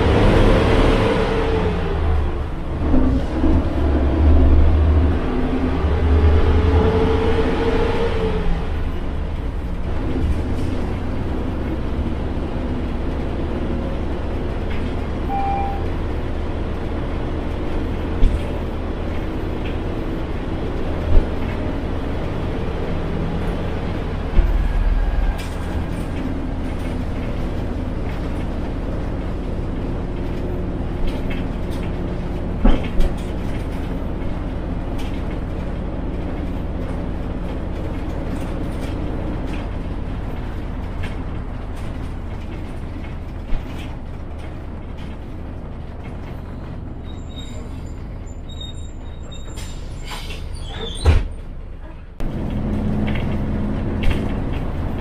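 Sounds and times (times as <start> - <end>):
bus engine rumbling: 0.0 - 55.0.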